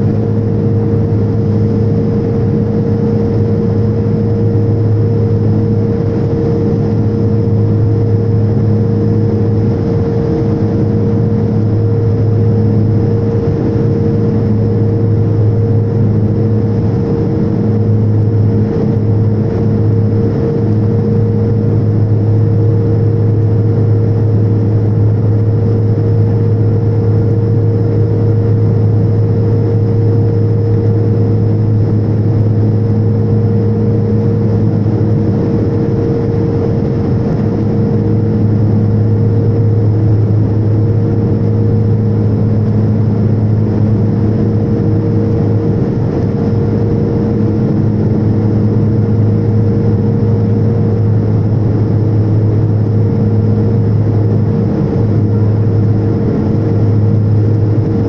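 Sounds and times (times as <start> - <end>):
turboprop engine drone in cabin: 0.0 - 58.0.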